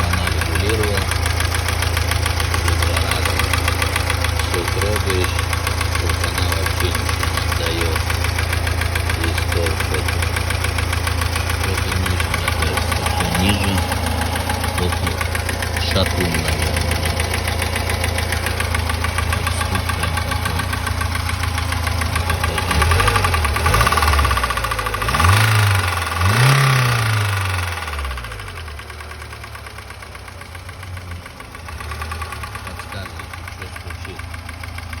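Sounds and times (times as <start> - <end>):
car engine running with a knock: 0.0 - 35.0.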